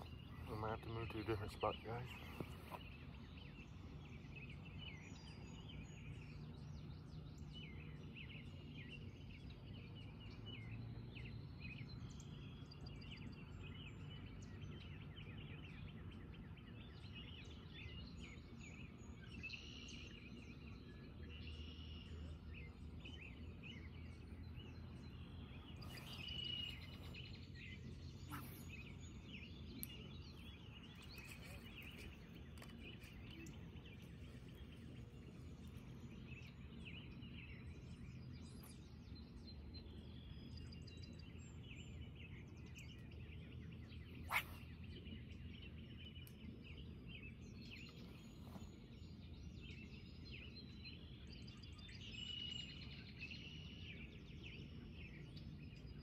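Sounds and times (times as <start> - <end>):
low steady hum: 0.0 - 56.0
small birds chirping: 0.0 - 56.0.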